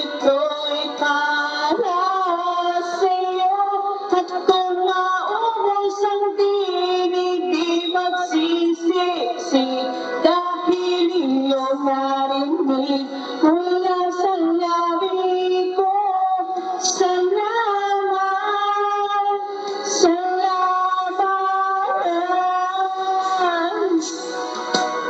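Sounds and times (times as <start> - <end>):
woman singing a slow ballad: 0.0 - 24.3
backing track: 0.0 - 25.0.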